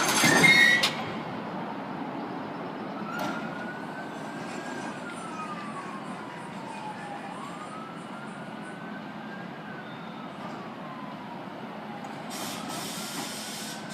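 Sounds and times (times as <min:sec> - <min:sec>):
emergency vehicle wail siren: 0:00.0 - 0:13.9.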